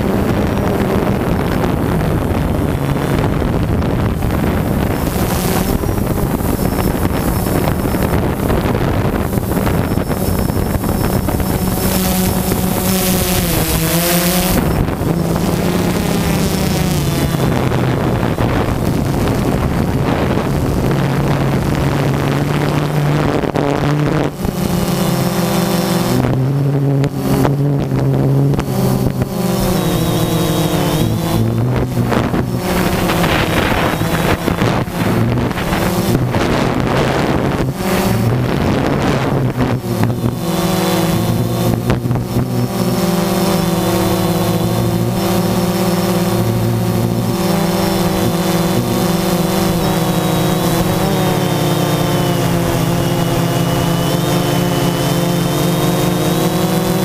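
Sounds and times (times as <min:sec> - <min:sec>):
drone motors whining: 0:00.0 - 0:57.0
wind noise on microphone: 0:00.0 - 0:57.0.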